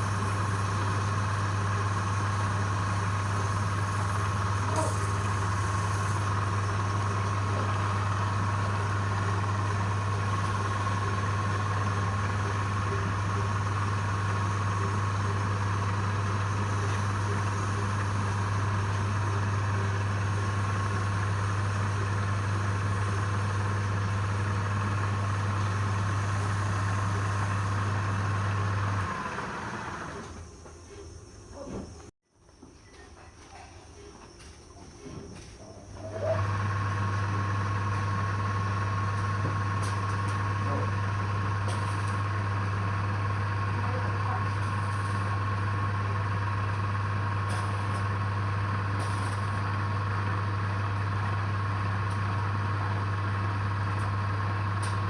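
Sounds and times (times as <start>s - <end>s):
wood lathe running: 0.0s - 30.4s, 36.0s - 55.0s.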